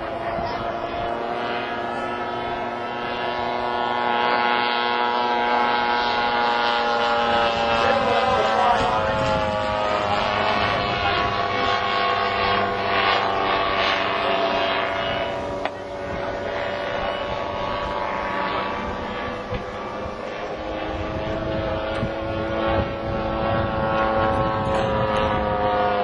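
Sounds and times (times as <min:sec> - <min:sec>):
model plane engine drone: 0:00.0 - 0:26.0.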